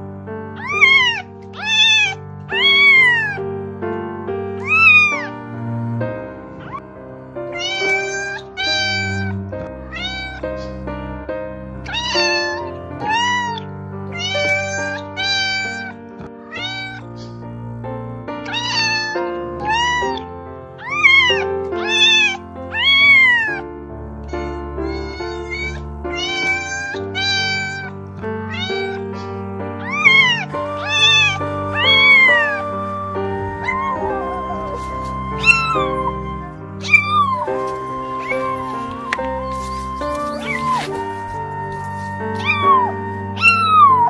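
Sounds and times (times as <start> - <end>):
soft background music: 0.0 - 44.0
cats meowing: 0.6 - 3.4, 4.6 - 5.4, 6.6 - 6.8, 7.5 - 10.9, 11.8 - 17.5, 18.4 - 23.6, 24.2 - 44.0.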